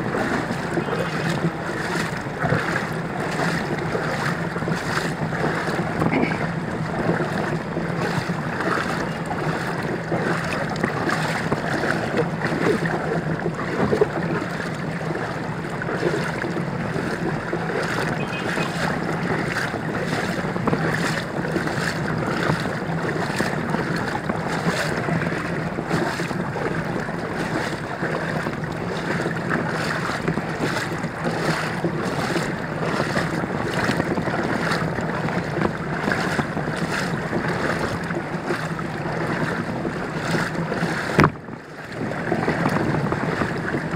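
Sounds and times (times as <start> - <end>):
floodwater sloshing: 0.0 - 43.9
low engine hum: 0.0 - 43.9.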